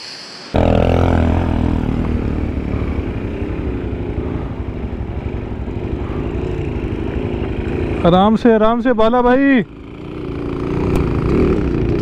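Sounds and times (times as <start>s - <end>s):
motorcycle engine running: 0.6s - 12.0s.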